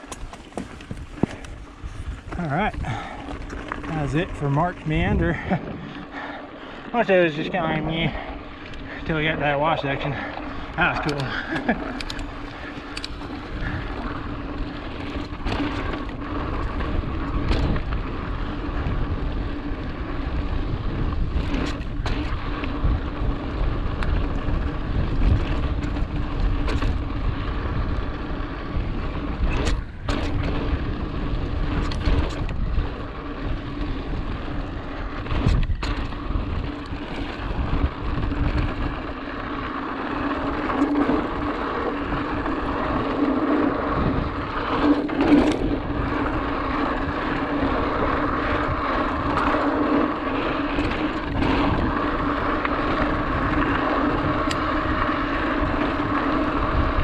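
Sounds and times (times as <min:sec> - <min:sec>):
bike clicks and rattles: 0:00.0 - 0:57.0
wind buffeting microphone: 0:00.0 - 0:57.0.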